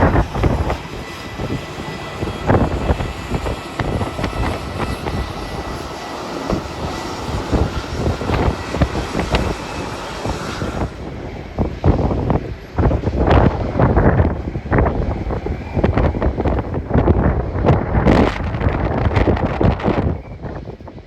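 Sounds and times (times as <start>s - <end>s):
jet engine whine: 0.0s - 21.0s
wind buffeting microphone: 0.0s - 21.0s.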